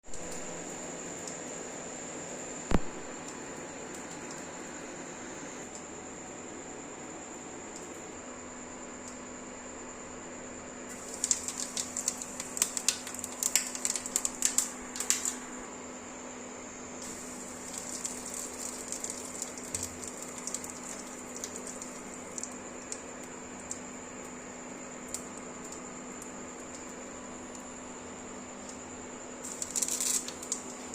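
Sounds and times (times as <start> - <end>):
steady background hum: 0.0 - 30.9.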